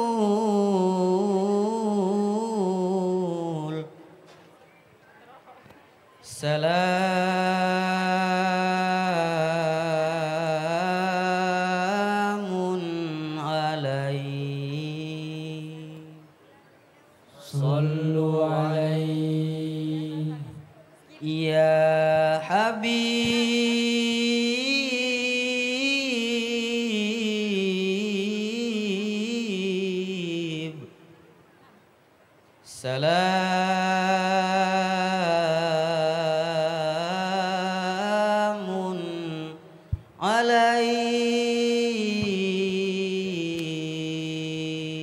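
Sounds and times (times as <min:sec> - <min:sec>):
man singing into microphone: 0:00.0 - 0:04.1, 0:06.2 - 0:16.2, 0:17.4 - 0:20.6, 0:21.2 - 0:31.1, 0:32.6 - 0:45.0.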